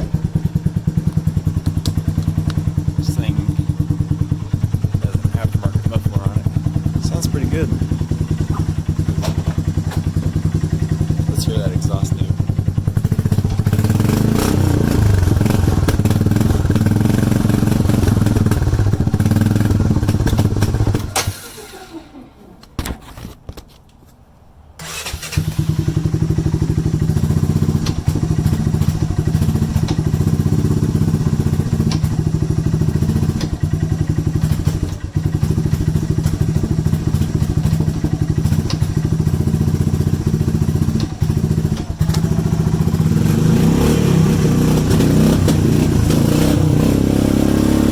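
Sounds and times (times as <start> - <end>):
atv engine running: 0.0 - 21.3, 24.9 - 47.9.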